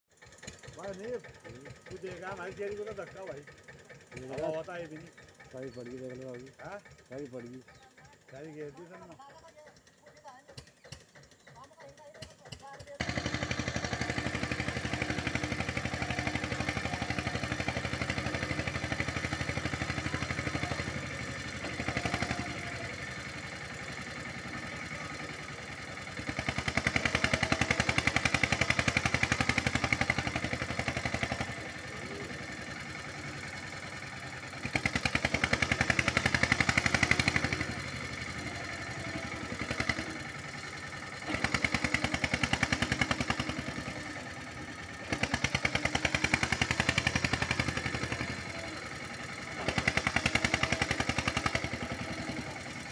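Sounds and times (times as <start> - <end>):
tractor diesel engine revving: 0.1 - 52.9.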